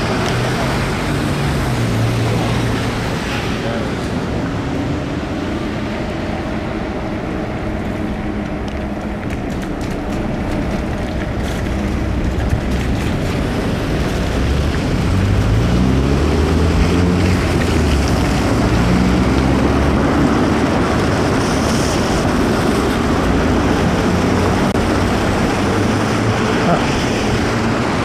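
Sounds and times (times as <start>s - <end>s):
wet road noise: 0.0s - 28.0s
vehicle engine accelerating: 5.0s - 28.0s.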